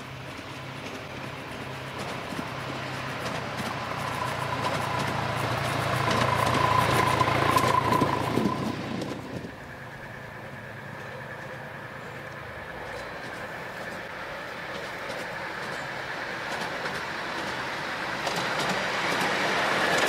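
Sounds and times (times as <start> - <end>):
train wheels rattling on rails: 0.0 - 20.0.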